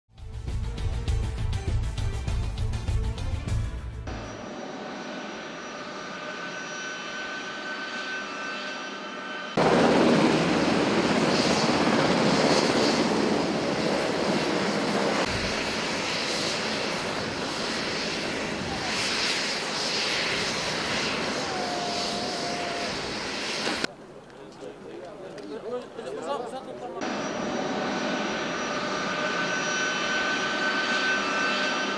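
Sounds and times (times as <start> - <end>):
aircraft engines humming: 0.2 - 31.9.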